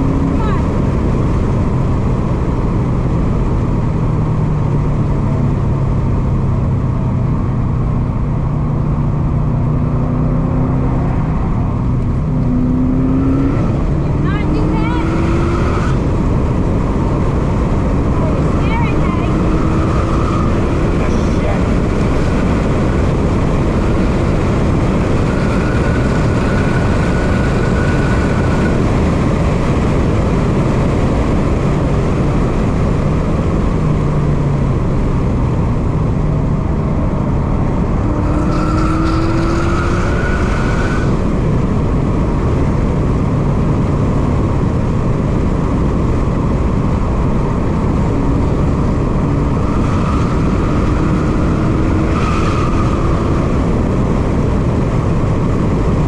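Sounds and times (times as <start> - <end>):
car engine accelerating: 0.0 - 56.0
road noise rushing: 0.0 - 56.0.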